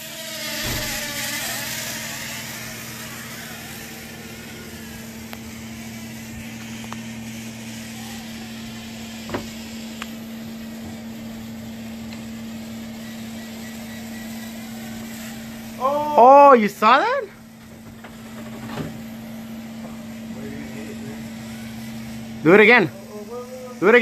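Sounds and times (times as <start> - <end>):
toy drone buzzing: 0.0 - 24.0.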